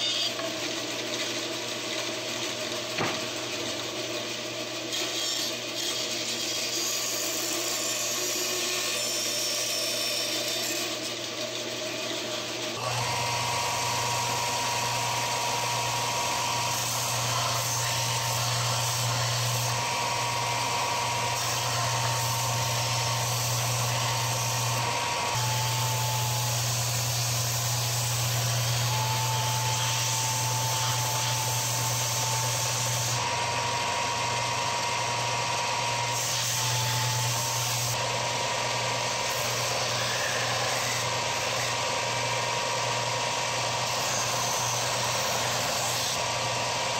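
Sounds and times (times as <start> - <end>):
belt sander motor whine: 7.3 - 46.9.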